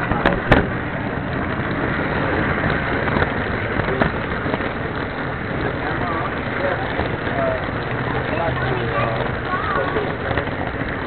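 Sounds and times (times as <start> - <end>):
model train wheels rumbling on rails: 0.0 - 11.0.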